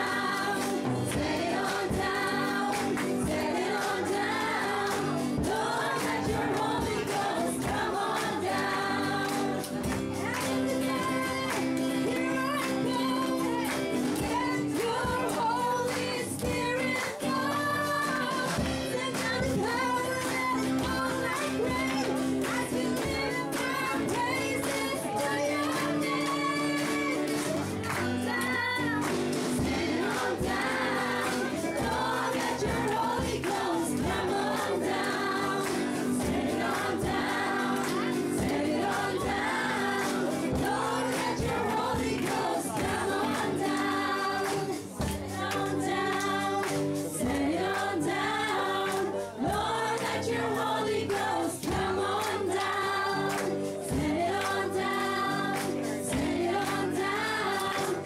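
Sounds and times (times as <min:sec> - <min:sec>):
choir singing gospel song: 0:00.0 - 0:58.0
instrumental backing with steady beat: 0:00.0 - 0:58.0.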